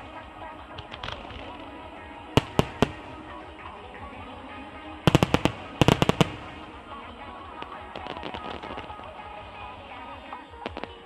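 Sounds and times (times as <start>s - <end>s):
fireworks bangs: 0.0s - 11.0s
fireworks rapid cracking: 0.0s - 11.0s
music: 0.0s - 11.0s.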